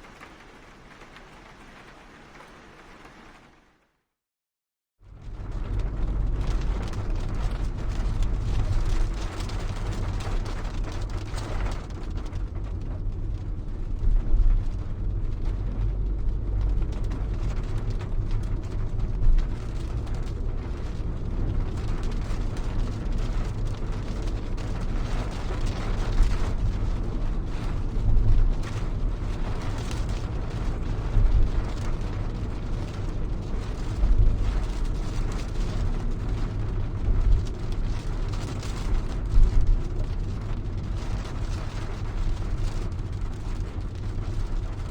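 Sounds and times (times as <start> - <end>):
rain on car roof: 0.0 - 4.0, 5.0 - 44.9
deep low rumble: 5.0 - 44.9.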